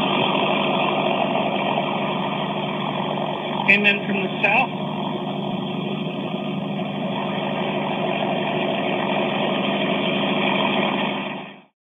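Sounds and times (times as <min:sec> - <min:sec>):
helicopter running: 0:00.0 - 0:11.7.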